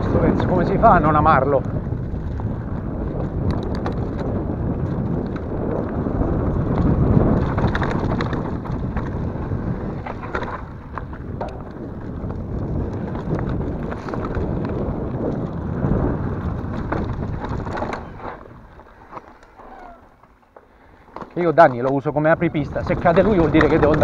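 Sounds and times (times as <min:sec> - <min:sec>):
wind on microphone: 0:00.0 - 0:20.2, 0:22.0 - 0:24.0
bike rattling over bumps: 0:00.0 - 0:24.0
bike tyres rolling on dirt: 0:00.0 - 0:24.0.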